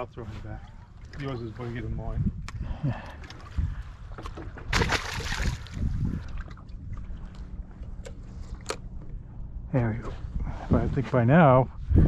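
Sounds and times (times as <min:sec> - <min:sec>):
water and wind rumble: 0:00.0 - 0:12.0.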